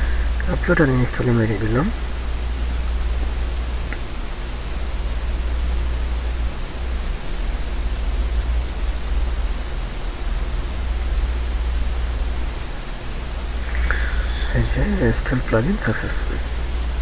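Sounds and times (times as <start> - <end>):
low hum: 0.0 - 17.0
microphone hiss: 0.0 - 17.0.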